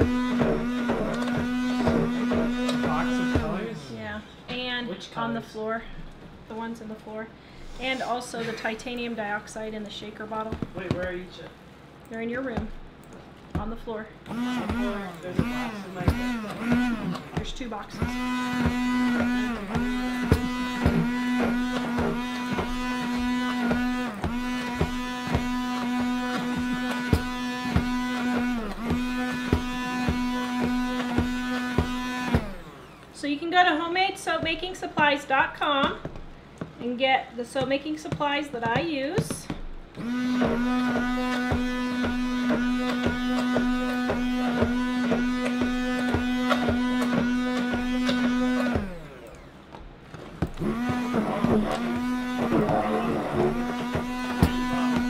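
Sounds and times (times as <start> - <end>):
stick blender motor humming: 0.0 - 4.6, 12.6 - 36.9, 37.5 - 55.0.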